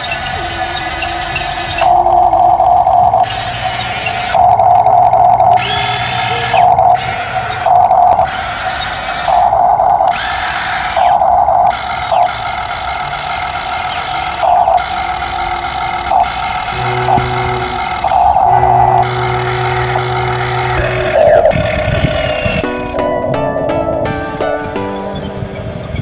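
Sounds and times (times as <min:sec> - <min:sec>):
small motor whirring in bursts: 0:00.0 - 0:22.6.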